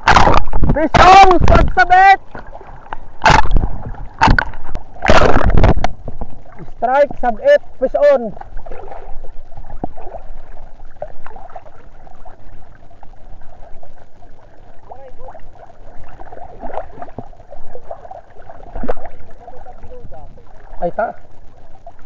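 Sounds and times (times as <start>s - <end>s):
bubbly splashes of small waves: 0.0s - 22.0s
sea water lapping and gurgling: 0.0s - 22.0s.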